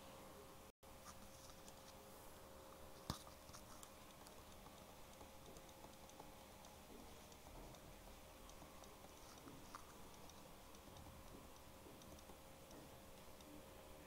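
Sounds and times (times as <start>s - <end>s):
faint electrical hum: 0.0s - 14.0s
soft ticks and taps of handwriting: 1.0s - 2.0s, 2.7s - 13.7s.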